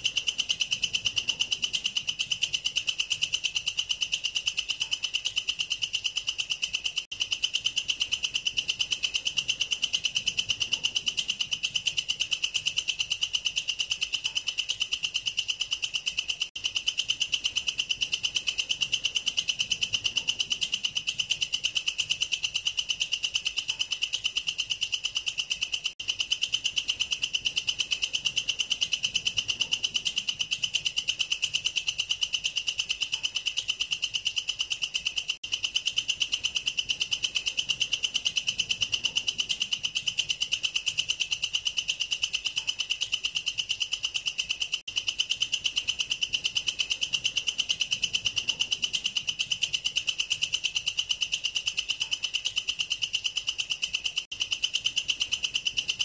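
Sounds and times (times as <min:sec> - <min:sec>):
katydid stridulating: 0:00.0 - 0:56.0.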